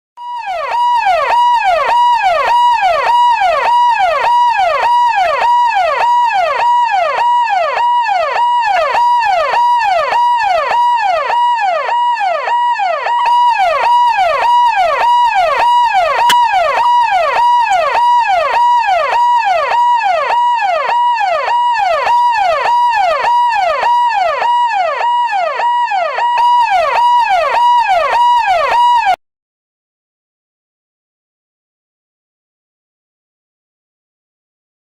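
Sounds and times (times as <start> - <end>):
police siren ringtone: 0.2 - 29.2.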